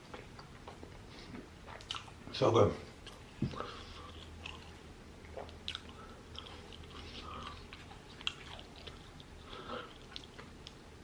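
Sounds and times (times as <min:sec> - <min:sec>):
person chewing food: 0:00.0 - 0:02.2, 0:02.9 - 0:11.0.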